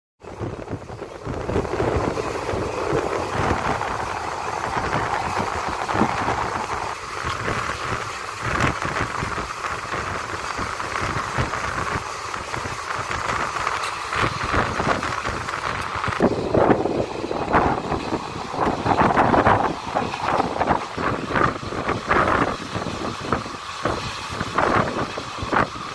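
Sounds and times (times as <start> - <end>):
train wind and wheel-on-rail noise: 0.2 - 25.9.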